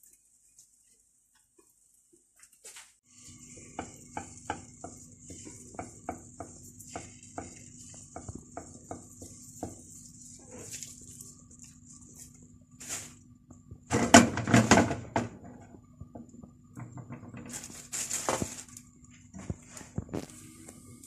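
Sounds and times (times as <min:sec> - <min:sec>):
faint steady hiss: 0:00.0 - 0:13.6, 0:16.9 - 0:21.0
kitchen rustling and clatter: 0:00.0 - 0:20.5.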